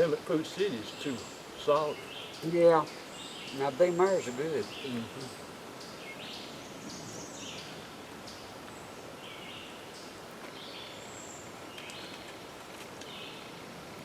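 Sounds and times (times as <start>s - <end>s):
birds calling: 0.0s - 13.8s
outdoor background noise: 0.0s - 14.0s.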